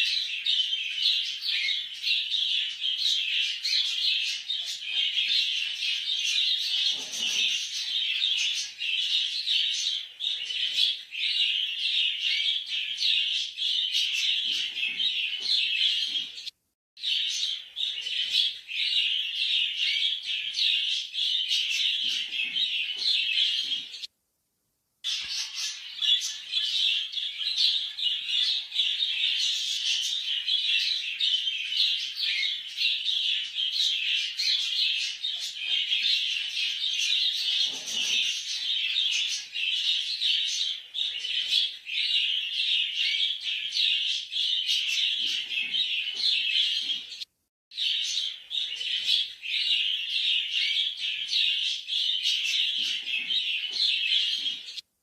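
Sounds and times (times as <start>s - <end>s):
cockatiels chirping: 0.0s - 24.1s, 25.1s - 54.8s.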